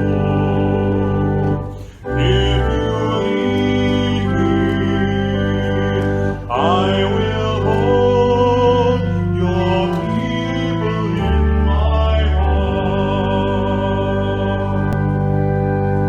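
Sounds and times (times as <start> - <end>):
organ playing hymn chords: 0.0 - 16.0.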